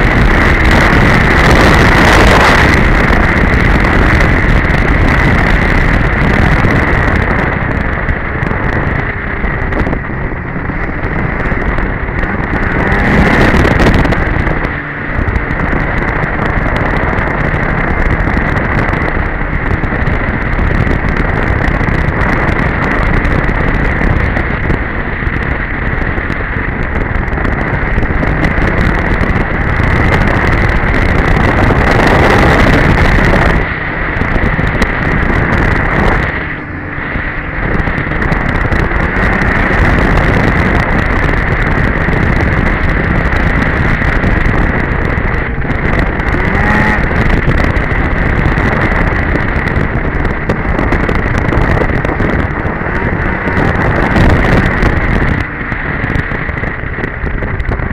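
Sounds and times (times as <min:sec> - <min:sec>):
snowmobile engine running: 0:00.0 - 0:57.9
wind buffeting microphone: 0:00.0 - 0:57.9.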